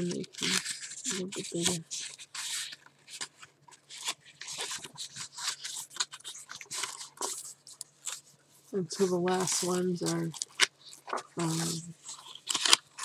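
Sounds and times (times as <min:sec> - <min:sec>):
paper sheets flipping: 0:00.0 - 0:13.0.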